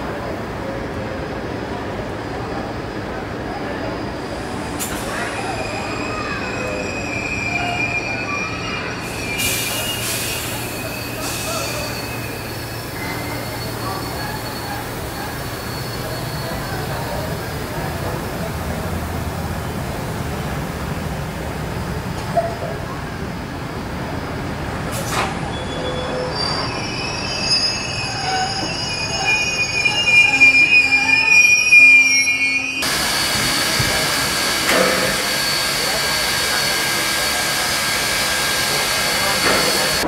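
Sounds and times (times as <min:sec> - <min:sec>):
train wheels squealing on rail: 0:00.1 - 0:18.2, 0:24.9 - 0:40.0.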